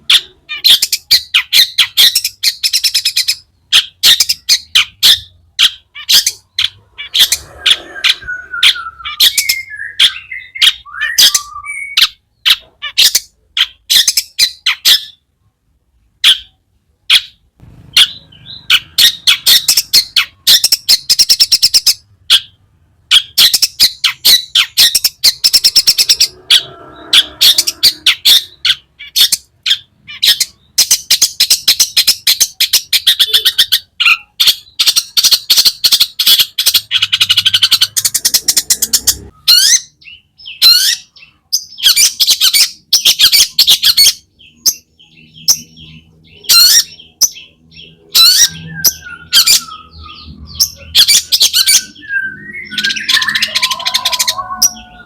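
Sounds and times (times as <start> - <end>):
shrike chattering song: 0.0 - 15.2, 16.2 - 55.0.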